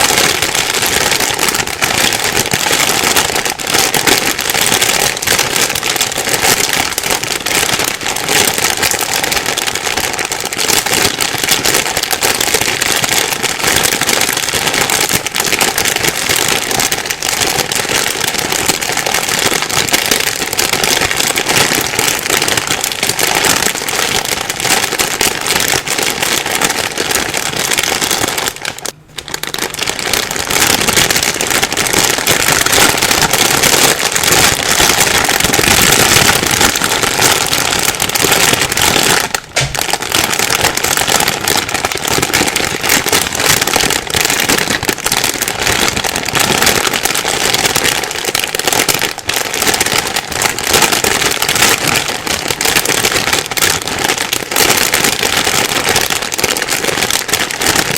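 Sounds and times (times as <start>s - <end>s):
plastic bag rustling: 0.0s - 57.9s.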